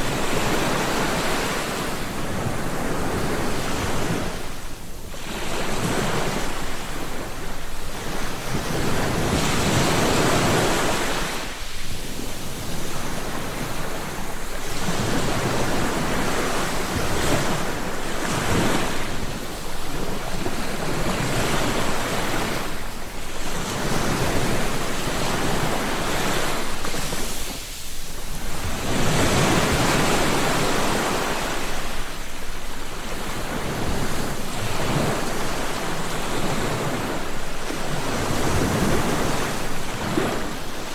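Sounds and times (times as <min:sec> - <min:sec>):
sea waves breaking on shore: 0:00.0 - 0:40.9
wind on microphone: 0:00.0 - 0:40.9.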